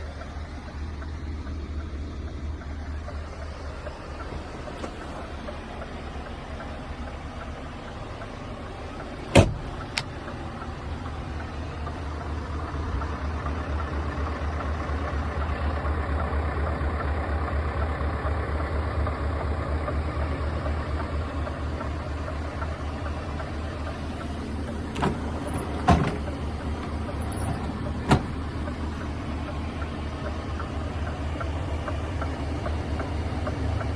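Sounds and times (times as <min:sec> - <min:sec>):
diesel engine humming: 0:00.0 - 0:33.9.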